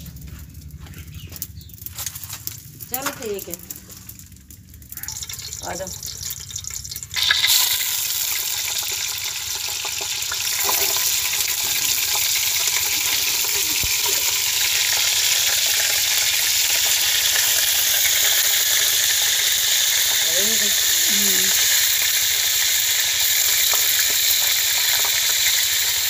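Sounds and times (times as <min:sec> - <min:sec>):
fish frying in hot oil: 0:04.2 - 0:26.0.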